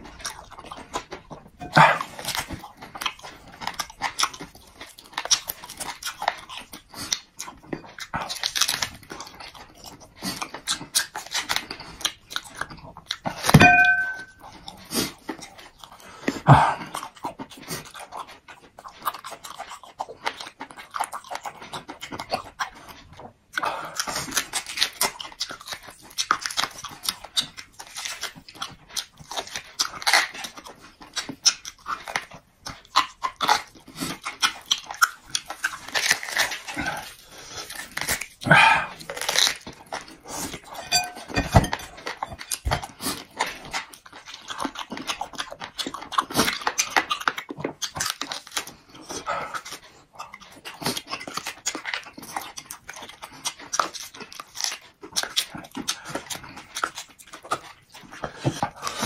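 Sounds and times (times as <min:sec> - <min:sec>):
chewing and smacking: 0:00.0 - 0:59.0
man gnawing meat off bone: 0:00.0 - 0:59.0.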